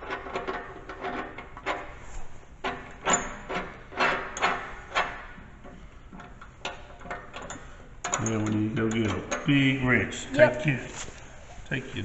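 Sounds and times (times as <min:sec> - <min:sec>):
metallic clicks and scraping: 0:00.0 - 0:09.7.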